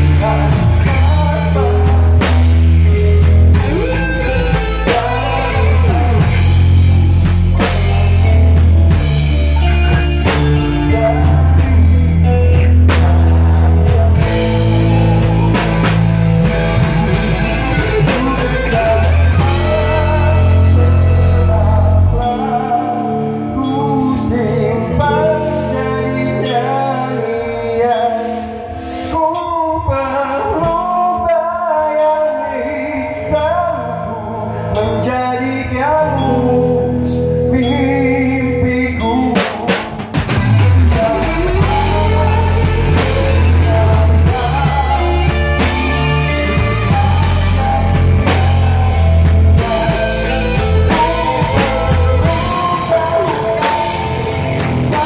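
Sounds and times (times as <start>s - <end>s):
bass guitar: 0.0s - 55.0s
drum kit: 0.0s - 55.0s
electric guitar: 0.0s - 55.0s
man singing into a microphone: 0.0s - 55.0s.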